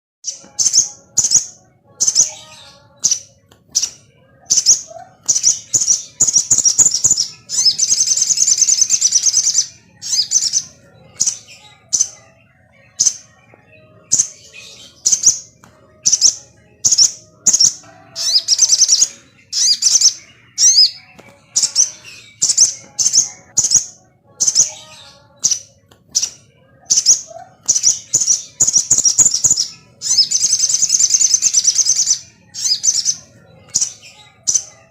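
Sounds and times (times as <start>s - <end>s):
songbird chirping and trilling: 0.2s - 34.9s.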